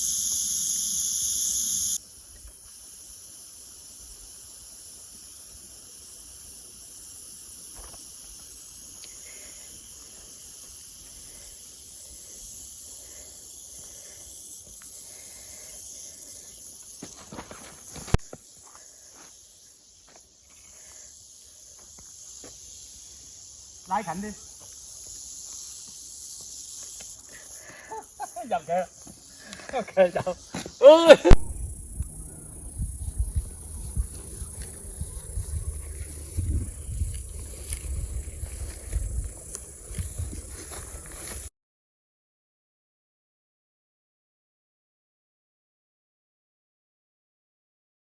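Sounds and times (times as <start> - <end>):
rattlesnake tail rattling: 0.0 - 30.8, 31.4 - 41.5
insects buzzing: 0.0 - 41.5.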